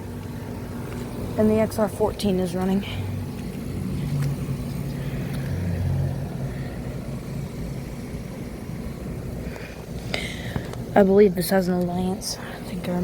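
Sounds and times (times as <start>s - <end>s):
compressor humming: 0.0s - 13.0s
condenser fan rushing: 0.0s - 13.0s.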